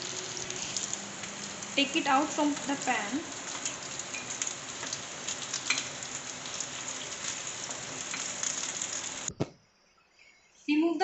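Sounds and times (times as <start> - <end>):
oil sizzling in a frying pan: 0.0 - 9.3.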